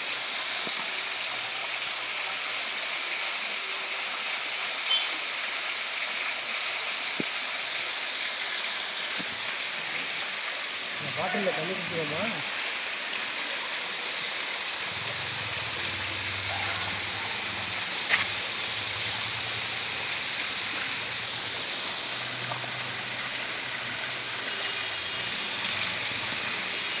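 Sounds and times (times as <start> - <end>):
small waterfall splashing: 0.0 - 27.0.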